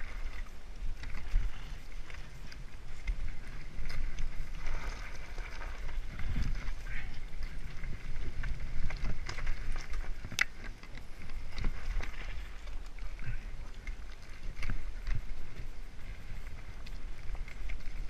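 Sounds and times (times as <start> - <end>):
bike rattling: 0.0 - 18.0
bike tyres crunching over stones: 0.0 - 18.0
steady low rumble: 0.0 - 18.0.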